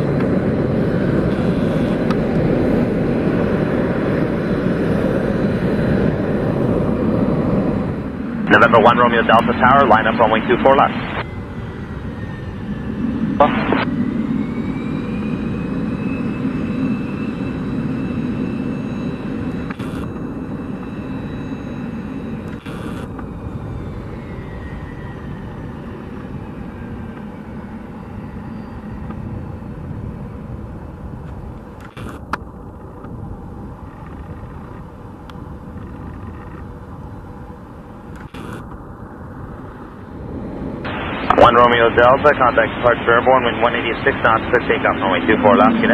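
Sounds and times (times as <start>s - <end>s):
jet engines running: 0.0s - 45.9s.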